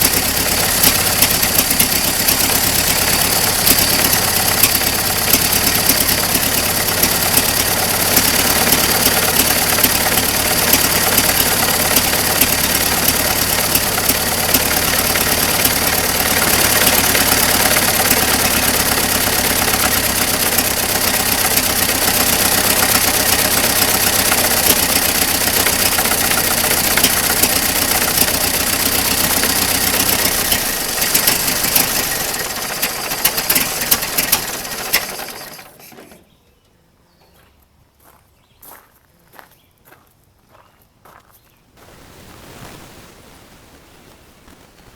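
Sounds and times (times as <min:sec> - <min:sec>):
old car engine idling: 0:00.0 - 0:36.4.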